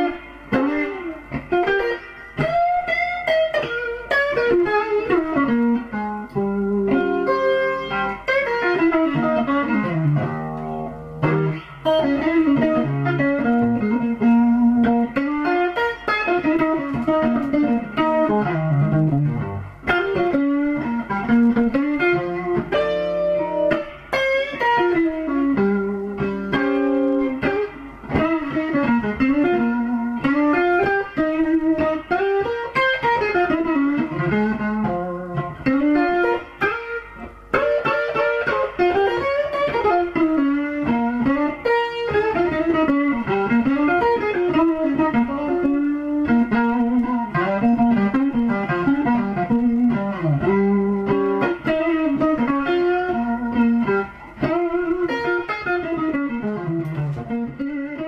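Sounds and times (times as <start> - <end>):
electric guitar lead: 0.0 - 58.0.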